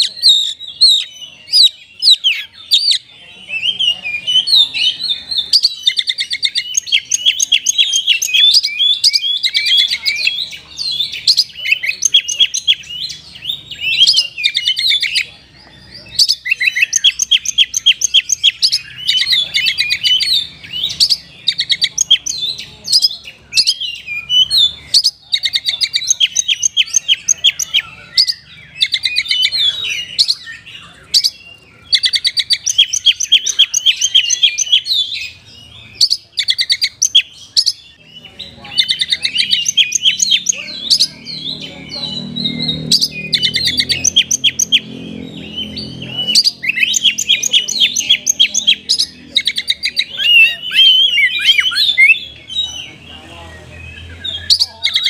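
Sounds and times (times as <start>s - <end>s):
bird singing trills: 0.0s - 55.0s.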